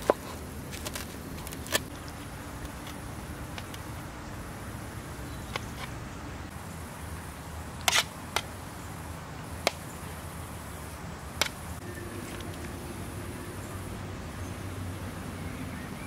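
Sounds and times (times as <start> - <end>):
faint steady hum: 0.0 - 16.0
low background noise: 0.0 - 16.0.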